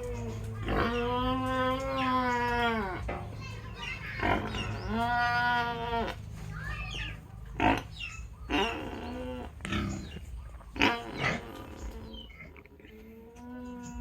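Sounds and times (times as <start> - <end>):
pig grunting: 0.0 - 3.1, 4.1 - 6.3, 7.6 - 14.0.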